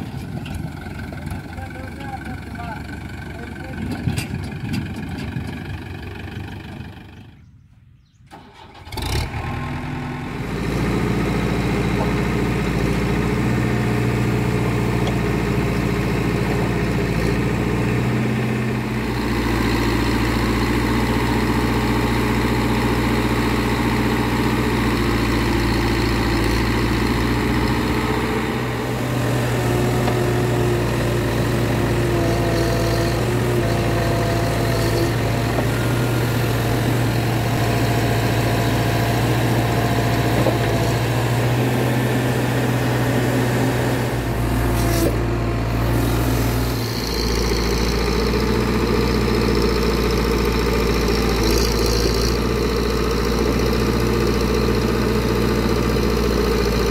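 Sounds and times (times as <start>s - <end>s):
diesel engines running: 0.0s - 56.9s.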